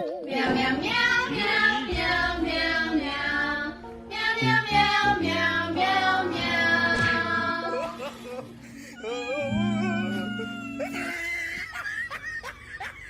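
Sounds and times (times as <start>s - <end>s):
backing music: 0.3s - 11.1s.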